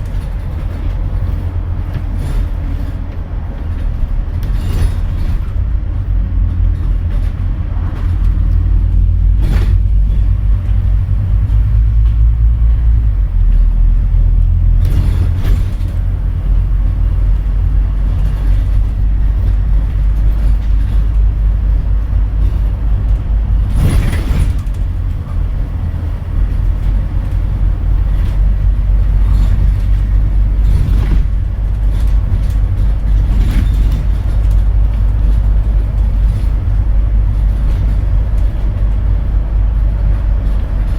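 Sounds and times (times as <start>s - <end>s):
bus engine droning: 0.0s - 40.9s
rattling noise: 0.0s - 40.9s.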